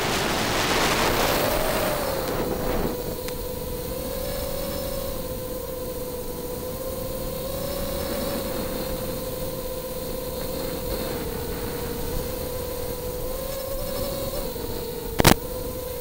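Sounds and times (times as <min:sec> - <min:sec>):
drone motors whining: 0:00.0 - 0:16.0
wind rush and hiss: 0:00.0 - 0:16.0.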